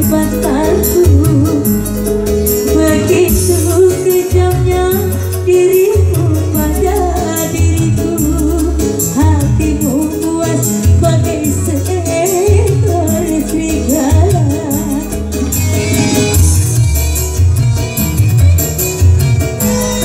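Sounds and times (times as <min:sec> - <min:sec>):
woman singing into a microphone: 0:00.0 - 0:16.9
electronic keyboard band: 0:00.0 - 0:20.0.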